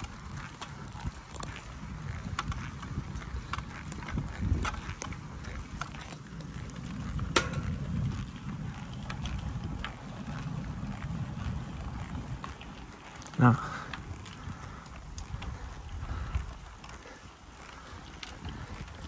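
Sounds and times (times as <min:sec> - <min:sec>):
bicycle tyres rumbling on asphalt: 0:00.0 - 0:19.0
wind on microphone: 0:00.0 - 0:19.0.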